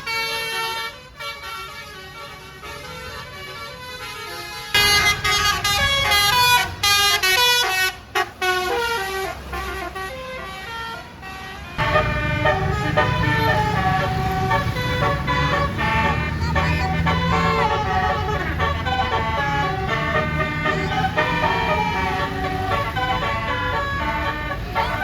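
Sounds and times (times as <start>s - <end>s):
low vehicle rumble: 0.0s - 25.0s
multi-tone bus air horn tune: 0.0s - 25.0s.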